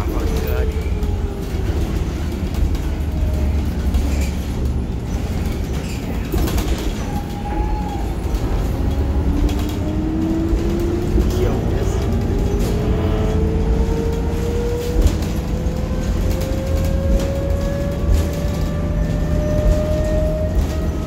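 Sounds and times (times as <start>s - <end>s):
bus cabin rumble: 0.0s - 21.0s.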